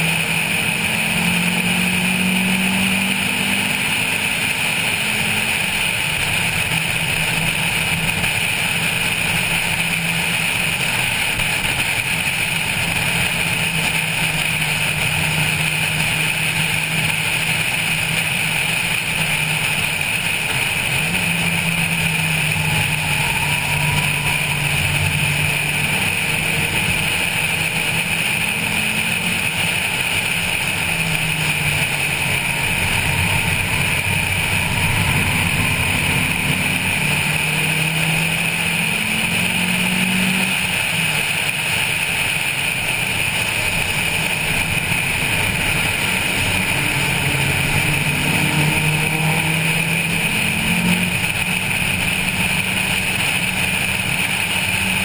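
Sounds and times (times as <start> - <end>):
car engine revving hard: 0.0 - 55.0.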